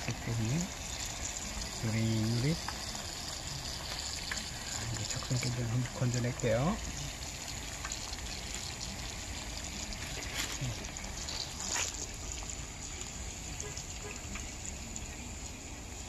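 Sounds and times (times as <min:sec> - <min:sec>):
leaves sizzling in hot oil: 0:00.0 - 0:16.0.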